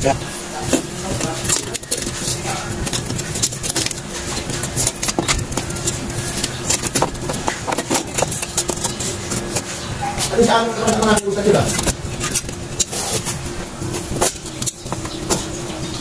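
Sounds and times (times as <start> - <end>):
steady engine-like hum: 0.0 - 16.0
metal brake parts clicking and scraping: 0.6 - 16.0.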